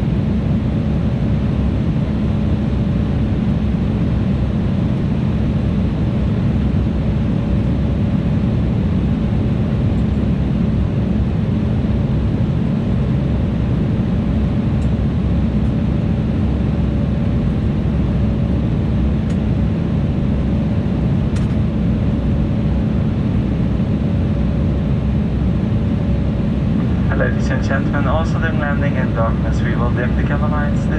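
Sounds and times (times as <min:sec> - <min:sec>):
jet engines humming: 0:00.0 - 0:30.9.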